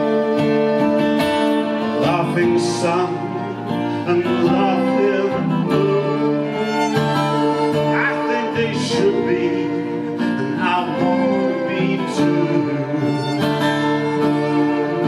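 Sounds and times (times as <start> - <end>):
electric guitar: 0.0 - 15.0
string quartet chords: 0.0 - 15.0.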